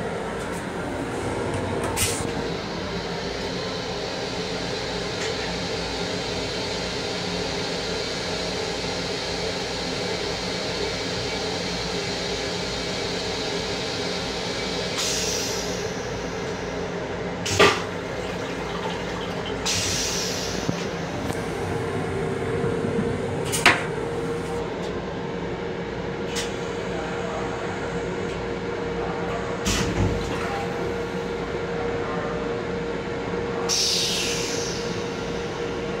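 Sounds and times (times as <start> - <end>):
train interior hum: 0.0 - 29.6.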